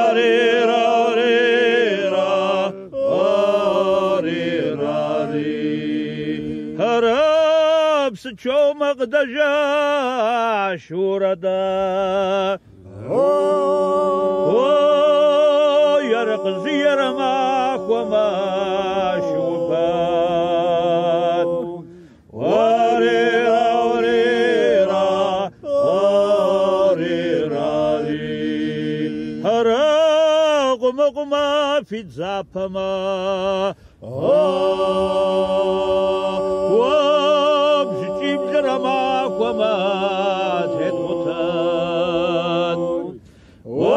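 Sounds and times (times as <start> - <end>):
low held vocal drone: 0.0 - 7.8, 11.6 - 30.3, 32.2 - 43.9
men singing unaccompanied: 0.0 - 43.9.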